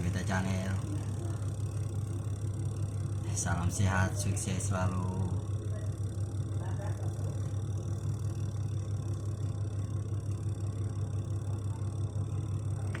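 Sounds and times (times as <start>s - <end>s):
low mains hum: 0.0s - 13.0s
spin-dryer motor running: 0.0s - 13.0s.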